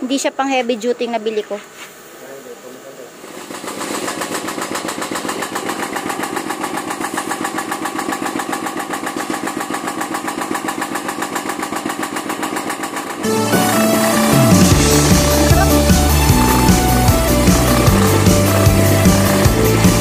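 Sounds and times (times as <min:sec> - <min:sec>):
diesel engine chugging: 0:03.2 - 0:20.0.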